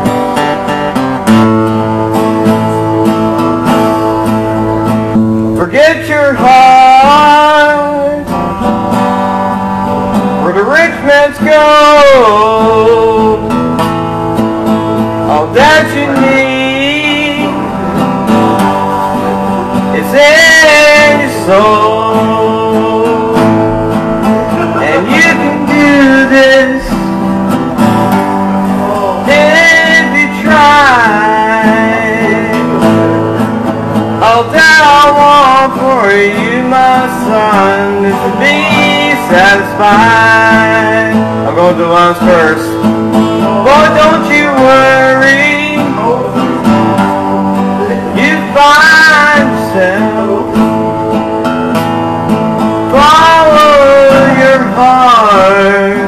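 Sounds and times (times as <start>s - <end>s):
acoustic guitar: 0.0s - 56.0s
man singing: 0.0s - 56.0s.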